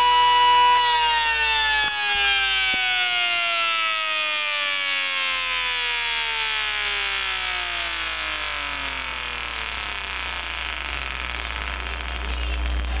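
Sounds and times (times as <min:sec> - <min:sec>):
electronic siren winding down: 0:00.0 - 0:13.0.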